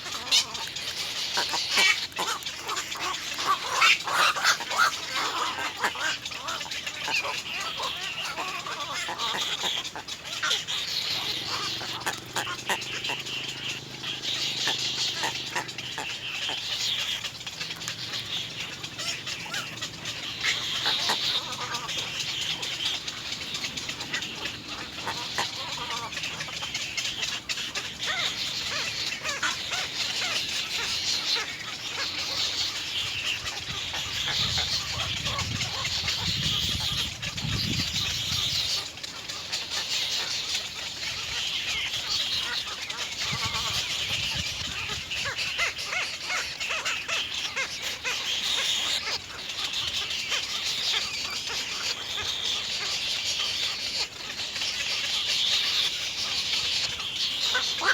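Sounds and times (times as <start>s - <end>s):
baby birds begging calls: 0.0s - 57.9s.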